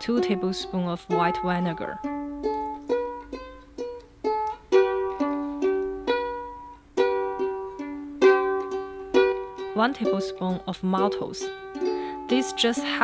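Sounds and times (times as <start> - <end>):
plucked string instrument tune: 0.0 - 13.0.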